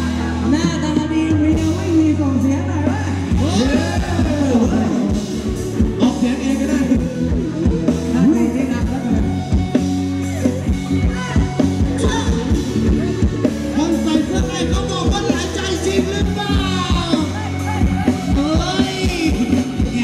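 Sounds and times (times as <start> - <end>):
live band dance music: 0.0 - 20.0
steady drum beat: 0.0 - 20.0.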